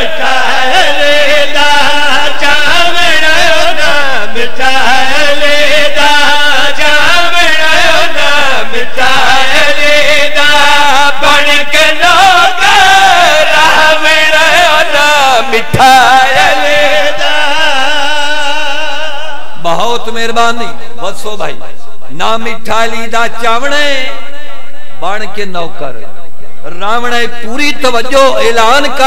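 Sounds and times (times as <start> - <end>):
man chanting through a microphone: 0.0 - 29.0.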